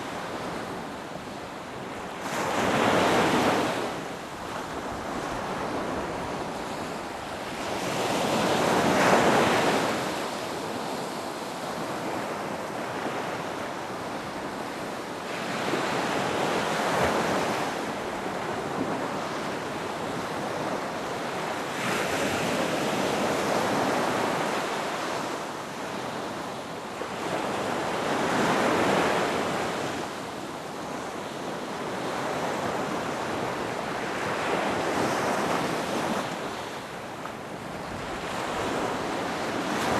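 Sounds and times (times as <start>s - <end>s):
ocean waves breaking on beach: 0.0s - 39.9s
wind: 0.0s - 39.9s.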